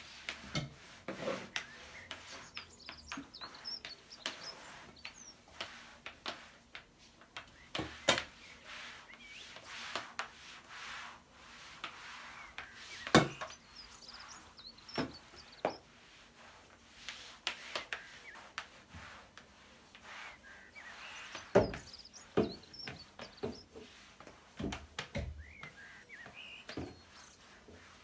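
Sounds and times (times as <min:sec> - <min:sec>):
small birds chirping faintly: 0:00.0 - 0:28.0
soft rustling: 0:00.0 - 0:28.0.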